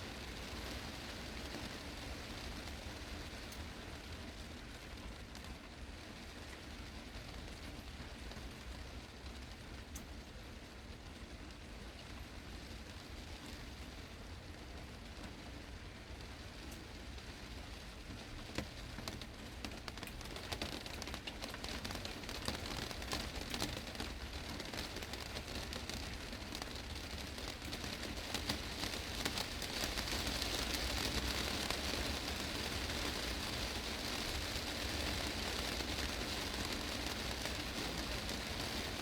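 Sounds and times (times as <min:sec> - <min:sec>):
heavy rain on a glass roof: 0:00.0 - 0:39.0.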